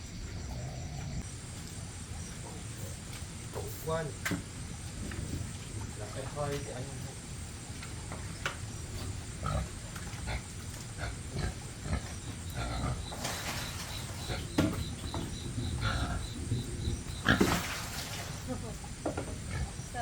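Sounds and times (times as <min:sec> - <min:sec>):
pigs grunting: 0:00.0 - 0:20.0.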